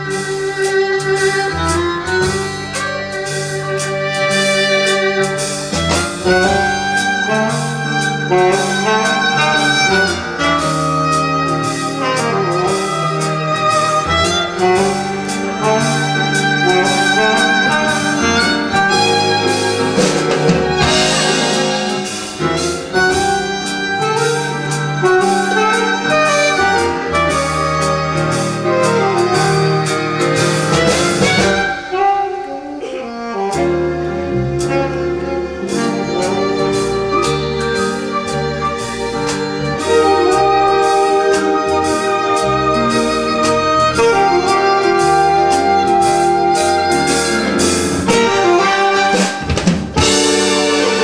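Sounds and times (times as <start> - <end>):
live band playing up-tempo: 0.0 - 51.0
saxophone: 0.0 - 51.0
violin: 0.0 - 51.0.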